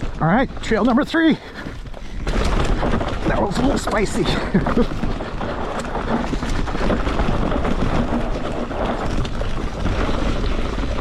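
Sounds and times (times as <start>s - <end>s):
bike rattling: 0.0s - 11.0s
tyre noise on dirt: 0.0s - 11.0s
wind over microphone: 0.0s - 11.0s.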